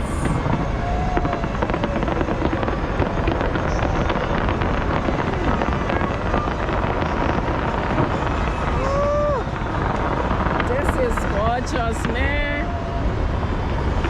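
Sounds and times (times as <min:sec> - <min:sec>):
fireworks crackling: 0:00.0 - 0:14.0
low rumble: 0:00.0 - 0:14.0.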